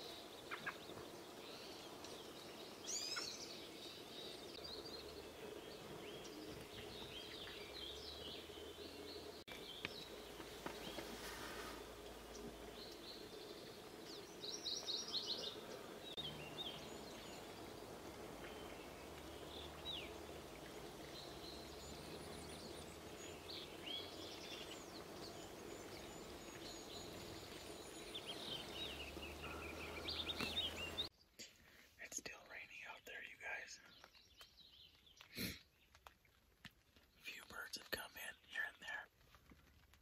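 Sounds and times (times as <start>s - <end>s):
falling rain hiss: 0.0s - 36.1s
small birds chirping: 0.0s - 39.2s.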